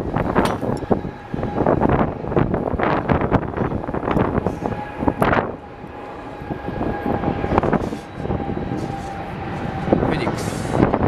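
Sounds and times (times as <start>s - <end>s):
jet engines whining: 0.0s - 11.0s
wind buffeting microphone: 0.0s - 11.0s.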